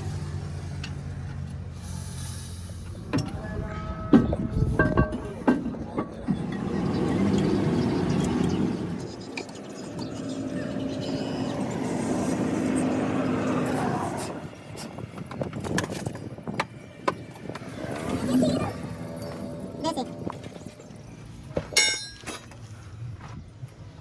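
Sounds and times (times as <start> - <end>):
motor vehicle engine running: 0.0 - 24.0.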